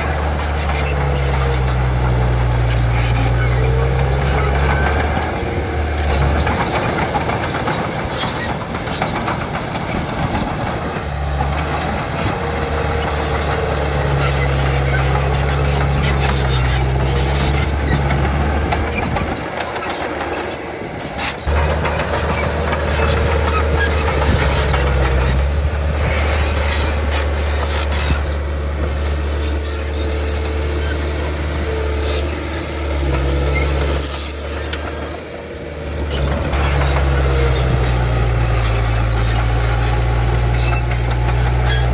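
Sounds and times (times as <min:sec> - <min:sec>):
bulldozer diesel engine: 0:00.0 - 0:41.9
steel tracks clattering: 0:00.0 - 0:41.9.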